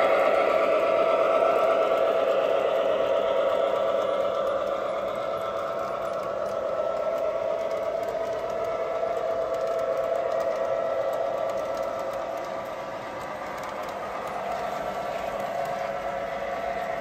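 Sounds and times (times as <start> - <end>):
metal wheels rolling on rails: 0.0 - 17.0
model train whine: 0.0 - 17.0.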